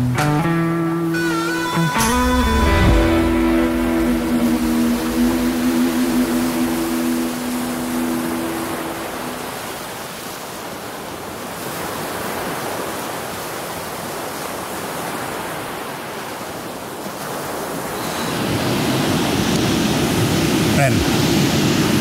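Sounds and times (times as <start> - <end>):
ocean waves washing: 0.8 - 22.0.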